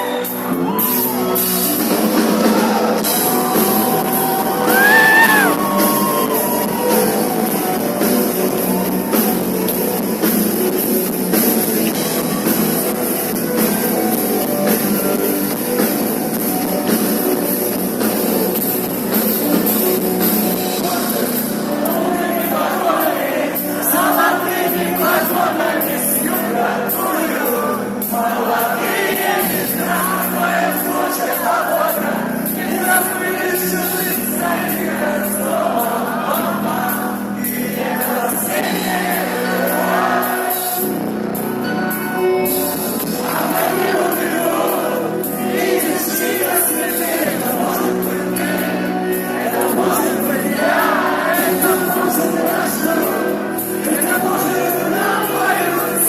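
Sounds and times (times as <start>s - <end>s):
backing music: 0.0s - 56.0s
group singing in unison: 1.7s - 18.2s, 19.1s - 41.6s, 42.5s - 56.0s.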